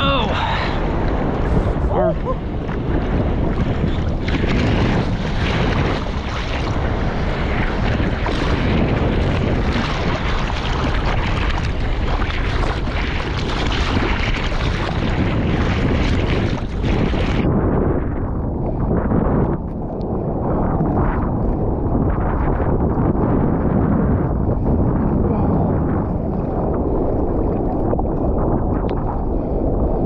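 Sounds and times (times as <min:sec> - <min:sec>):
seawater rushing and splashing: 0:00.0 - 0:30.0
wind buffeting microphone: 0:00.0 - 0:30.0.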